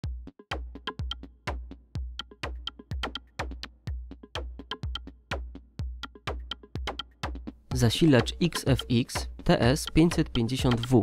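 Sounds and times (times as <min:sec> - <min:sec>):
electronic music with punchy beat: 0:00.0 - 0:11.0.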